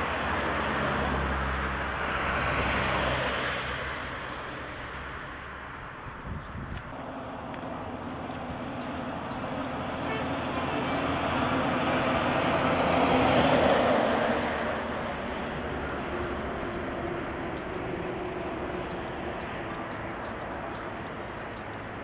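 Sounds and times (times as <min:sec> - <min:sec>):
heavy vehicle passing: 0:00.0 - 0:22.0.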